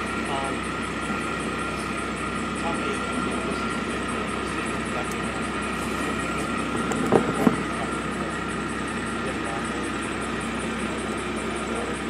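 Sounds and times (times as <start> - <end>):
faint steady tones: 0.0 - 12.0
machine hum: 0.0 - 12.0.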